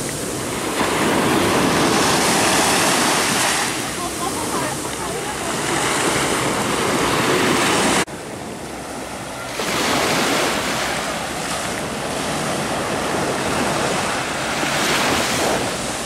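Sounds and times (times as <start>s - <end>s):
small waves breaking on shore: 0.0s - 16.0s
wind on microphone: 0.0s - 16.0s.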